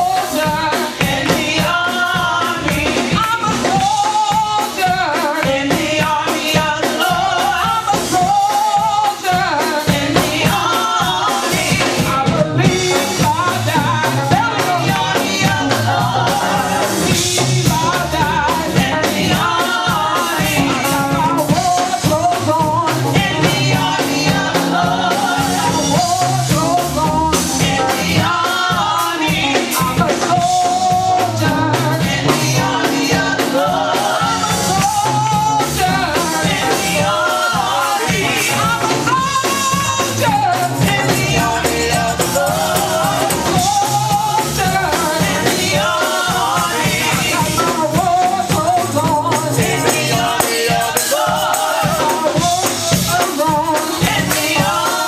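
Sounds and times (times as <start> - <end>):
drums and percussion: 0.0 - 55.0
gospel singing: 0.0 - 55.0.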